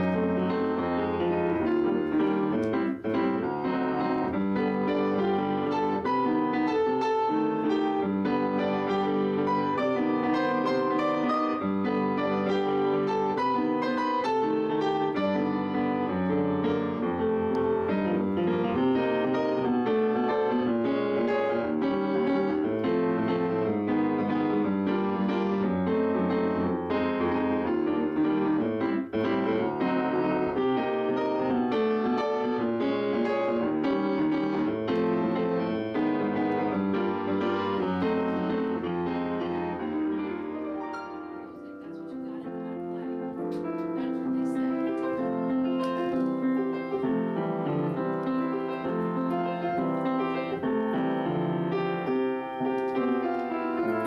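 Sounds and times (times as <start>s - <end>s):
upright piano playing: 0.0s - 54.0s.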